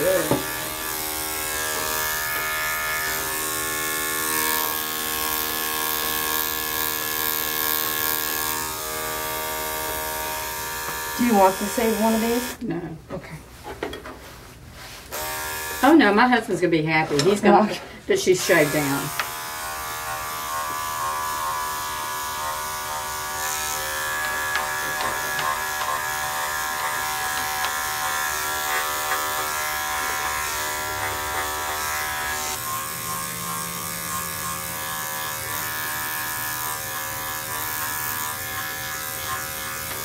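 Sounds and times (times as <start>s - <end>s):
electric clippers buzzing: 0.0s - 12.6s, 15.1s - 16.2s, 18.4s - 40.0s.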